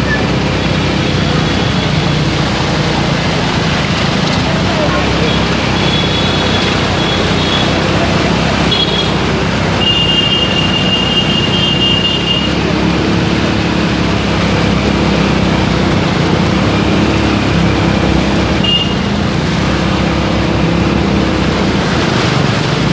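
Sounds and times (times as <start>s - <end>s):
road traffic: 0.0s - 22.9s.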